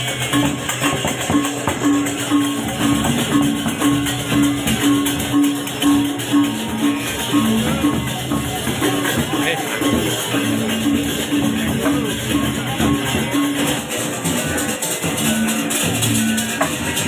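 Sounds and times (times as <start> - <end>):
gamelan metal keys pattern: 0.0 - 17.0.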